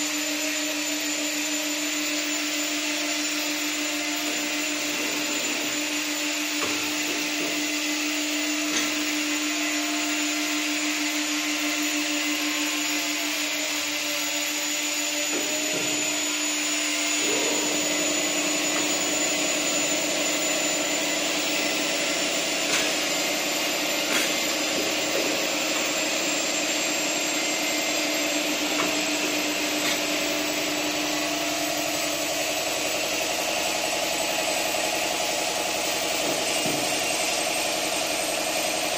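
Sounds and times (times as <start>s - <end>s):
hydraulic power unit whine: 0.0s - 38.9s
tube-bending machine working: 0.0s - 38.9s.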